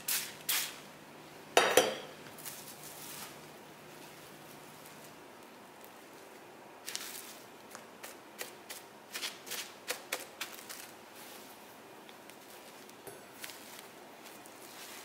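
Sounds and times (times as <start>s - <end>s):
plastic cling wrap crinkling: 2.4s - 15.0s.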